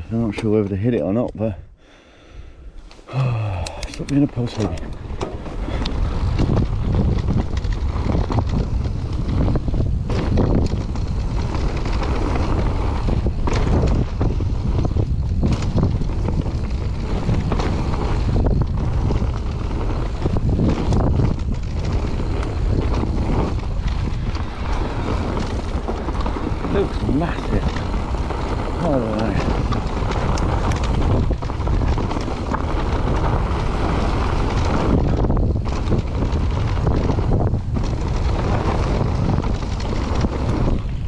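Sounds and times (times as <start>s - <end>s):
wind buffeting microphone: 2.6s - 41.0s
tyres rumbling on dirt: 3.0s - 41.0s
bike rattling over bumps: 3.9s - 41.0s.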